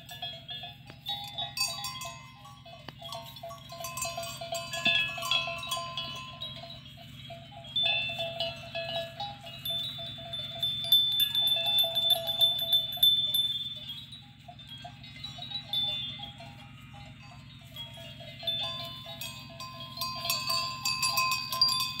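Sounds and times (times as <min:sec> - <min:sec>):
metal neck bell clinking: 0:00.0 - 0:22.0.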